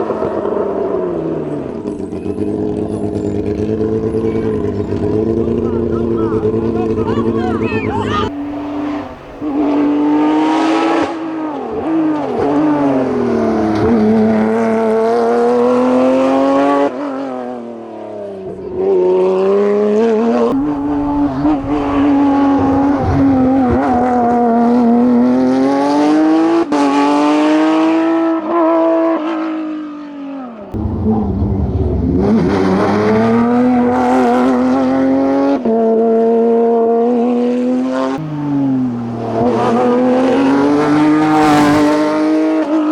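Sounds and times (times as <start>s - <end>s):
racing car engine revving: 1.5s - 17.2s, 18.4s - 36.4s, 37.4s - 42.9s.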